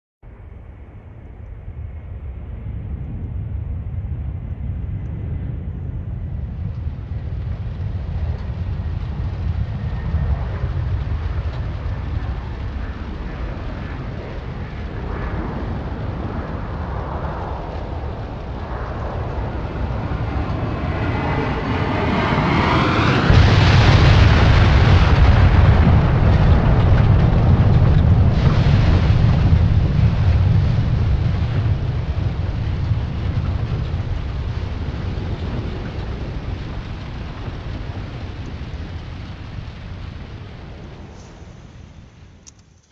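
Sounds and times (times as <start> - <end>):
deep explosion rumble: 0.2 - 42.4
background rumble: 0.2 - 42.9
rushing noise: 7.0 - 42.4.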